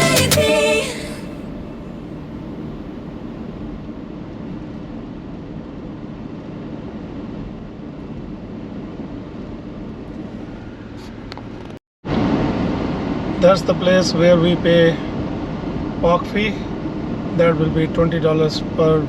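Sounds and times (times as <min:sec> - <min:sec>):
car road and engine noise: 0:00.0 - 0:18.9.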